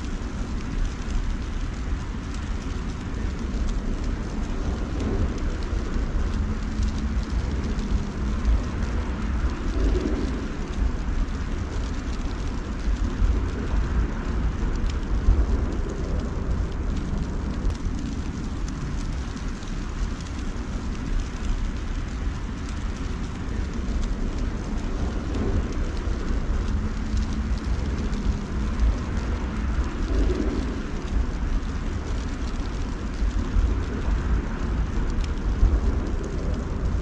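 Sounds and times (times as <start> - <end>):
faint ticks: 0.0 - 37.0
low rumble: 0.0 - 37.0.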